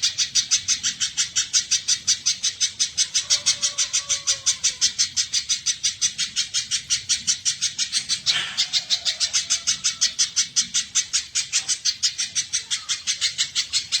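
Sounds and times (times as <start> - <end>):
bird chirping rapidly: 0.0 - 14.0
bird rasping call: 0.0 - 14.0.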